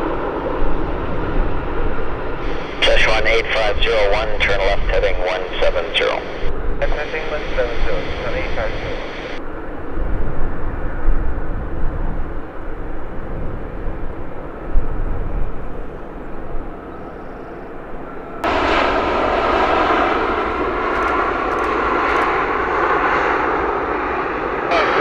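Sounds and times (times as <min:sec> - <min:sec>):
jet engine rumble and roar: 0:00.0 - 0:25.0.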